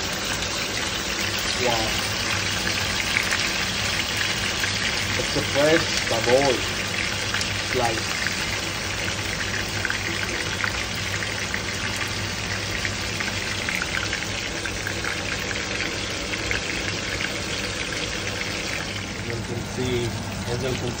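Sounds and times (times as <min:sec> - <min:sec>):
pork chop sizzling in oil: 0:00.0 - 0:21.0.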